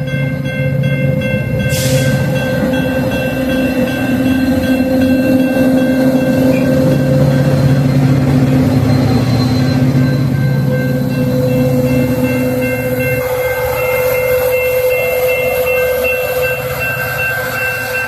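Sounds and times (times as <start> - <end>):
train running drone: 0.0 - 18.0.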